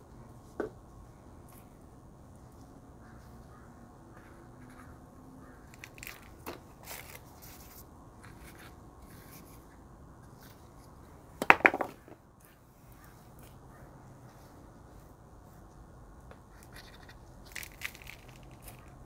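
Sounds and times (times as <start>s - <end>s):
soft rustling and scraping: 0.2s - 11.2s, 12.0s - 19.0s.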